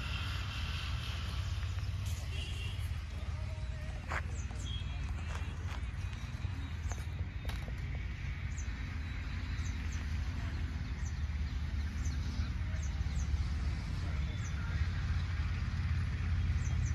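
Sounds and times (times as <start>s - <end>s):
small birds chirping: 0.0s - 16.9s
steady low rumble: 0.0s - 16.9s.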